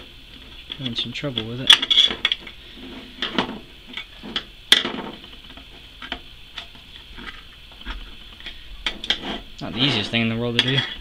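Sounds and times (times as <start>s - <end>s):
metal clicks and scrapes: 0.6s - 4.5s, 5.5s - 11.0s.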